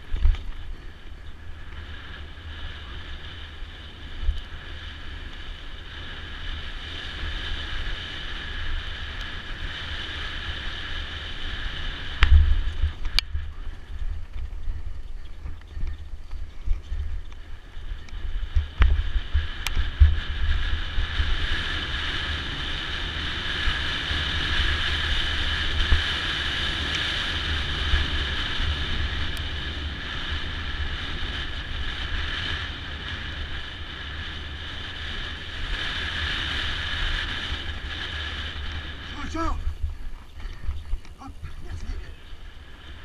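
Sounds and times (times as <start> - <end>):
rumbling bike ride noise: 0.0 - 43.0
wind buffeting microphone: 0.0 - 43.0.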